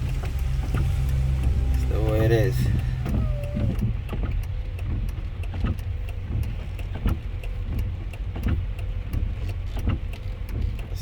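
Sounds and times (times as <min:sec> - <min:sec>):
car engine and road rumble: 0:00.0 - 0:11.0
light ticks: 0:00.0 - 0:11.0.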